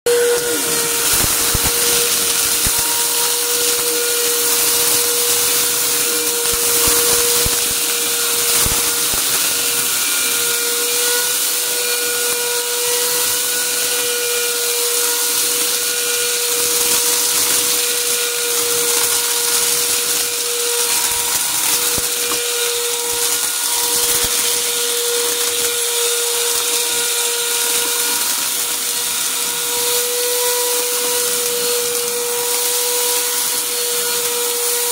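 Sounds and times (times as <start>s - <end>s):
vacuum cleaner running: 0.0s - 34.9s
debris crunching in vacuum: 0.1s - 12.3s, 14.2s - 34.8s.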